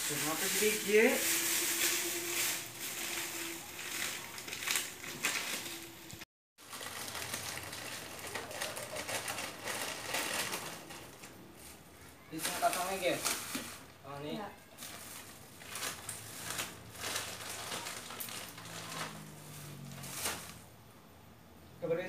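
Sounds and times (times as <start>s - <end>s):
plastic bag rustling: 0.0s - 20.7s.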